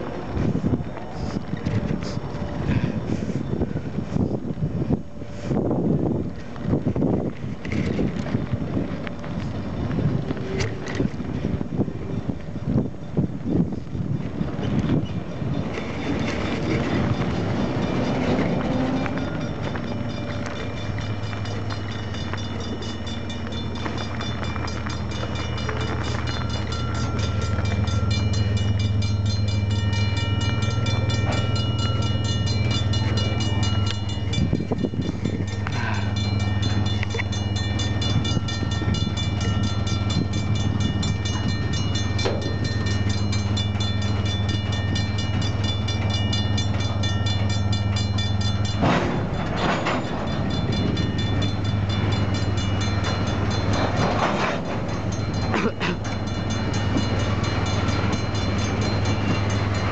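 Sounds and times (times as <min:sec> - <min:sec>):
crossing bell ringing: 0:00.0 - 0:59.9
train engine hum: 0:00.0 - 0:59.9.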